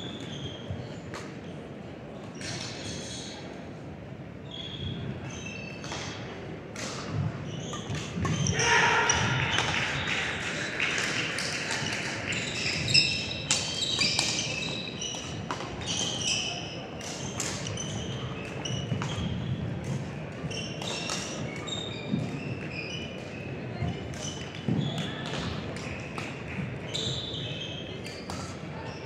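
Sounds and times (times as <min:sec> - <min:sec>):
shoes squeaking on hall floor: 0:00.0 - 0:03.8, 0:04.4 - 0:29.0.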